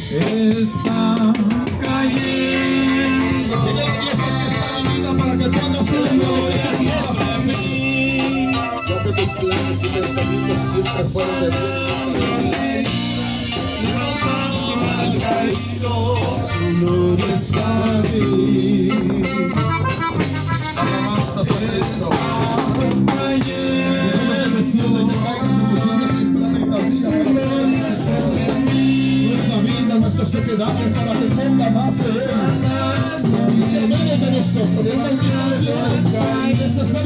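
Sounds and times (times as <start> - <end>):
live band music: 0.0 - 37.0
man singing: 0.0 - 37.0.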